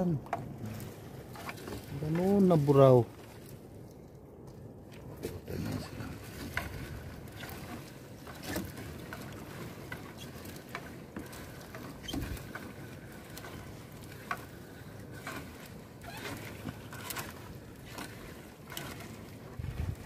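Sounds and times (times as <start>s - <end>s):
sea water splashing and dripping: 0.0s - 20.0s.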